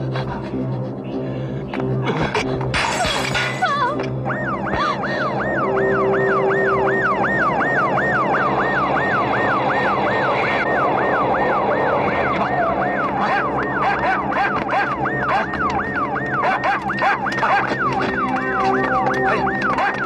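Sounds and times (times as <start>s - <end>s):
police siren yelping: 2.8s - 20.0s.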